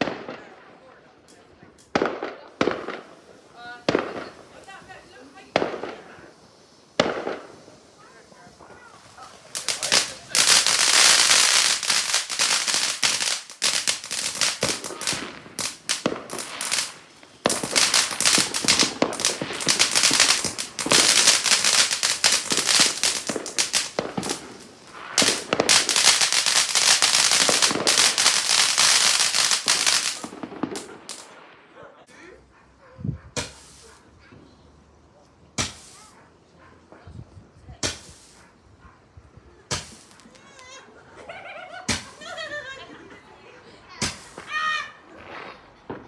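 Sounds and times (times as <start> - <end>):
fireworks crackling: 0.0 - 31.7, 33.4 - 34.1, 35.6 - 36.2, 37.8 - 38.5, 39.7 - 40.8, 41.8 - 43.3, 44.0 - 46.0.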